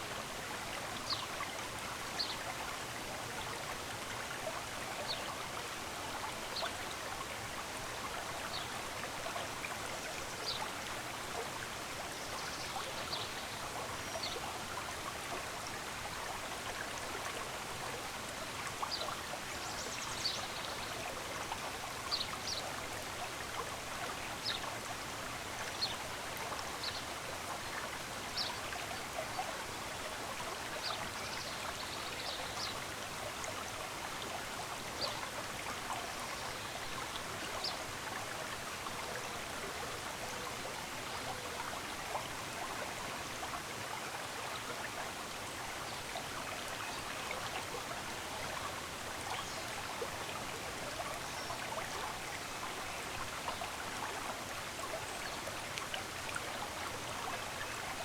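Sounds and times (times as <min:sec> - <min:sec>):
stream running: 0:00.0 - 0:58.0.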